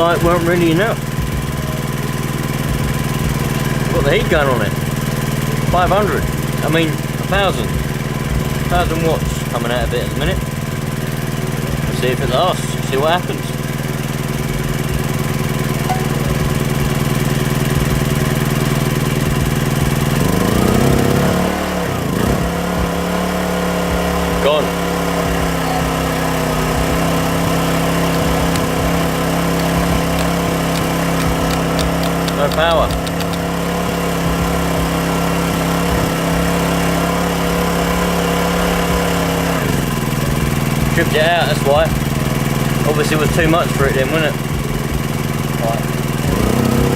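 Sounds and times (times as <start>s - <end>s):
small petrol generator running: 0.0s - 46.9s.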